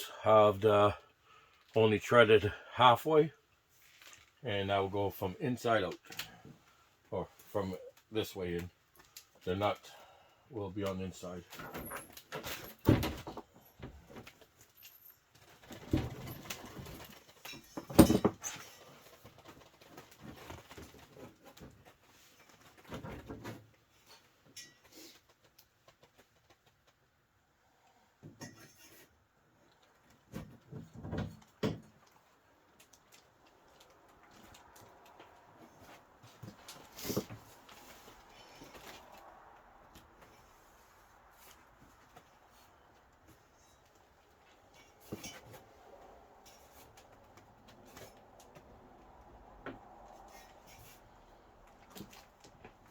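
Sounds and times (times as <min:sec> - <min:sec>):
clicks and rustles of tools: 0:03.8 - 0:04.4, 0:07.4 - 0:09.9, 0:10.8 - 0:27.2, 0:28.2 - 0:40.6, 0:41.4 - 0:52.9.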